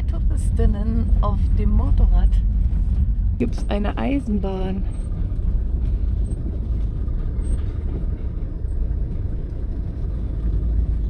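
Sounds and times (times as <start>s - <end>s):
car driving on dirt road: 0.0s - 11.0s.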